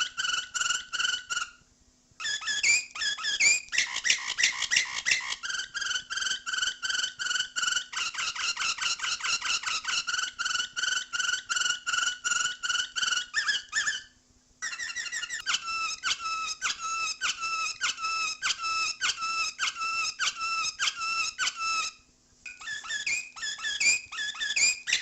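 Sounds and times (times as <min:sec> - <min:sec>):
canary singing: 0:00.0 - 0:01.6, 0:02.2 - 0:25.0.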